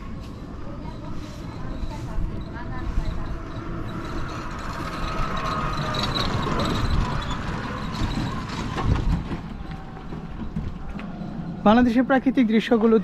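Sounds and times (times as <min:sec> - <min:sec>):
road rumble with rattling: 0:00.0 - 0:13.0.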